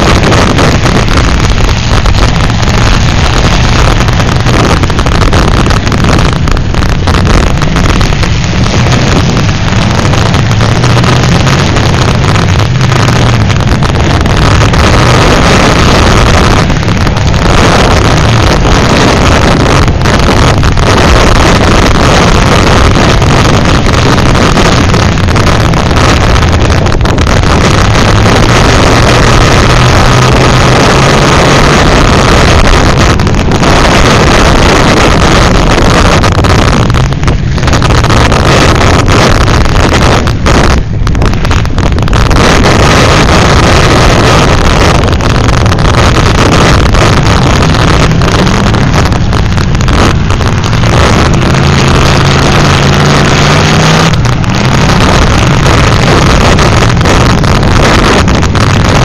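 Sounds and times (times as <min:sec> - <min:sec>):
car engines humming: 0:00.0 - 0:59.0
wind buffeting microphone: 0:00.0 - 0:59.0.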